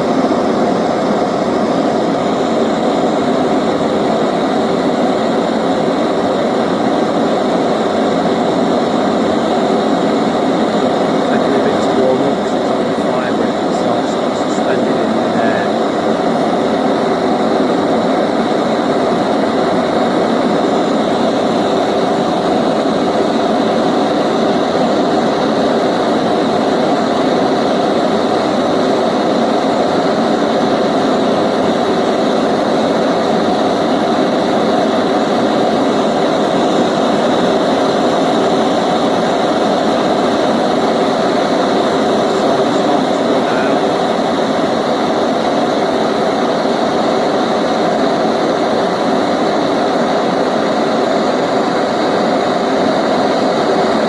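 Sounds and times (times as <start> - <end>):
gas torch burning: 0.0 - 54.0.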